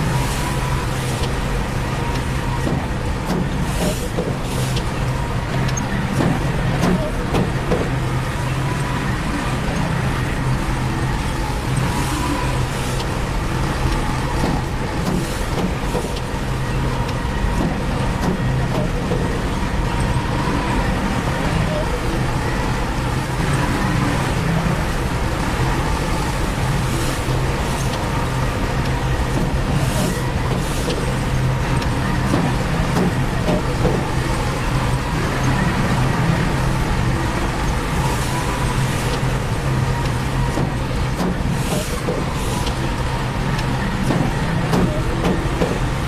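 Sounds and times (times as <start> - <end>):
diesel machinery running: 0.0 - 46.0.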